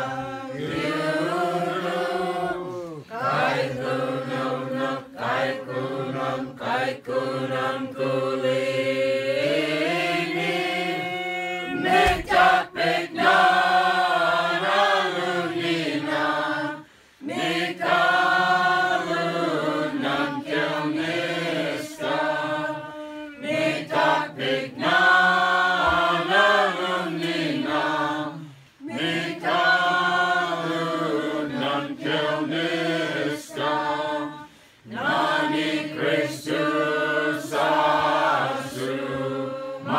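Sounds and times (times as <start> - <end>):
group singing a carol: 0.0 - 39.9.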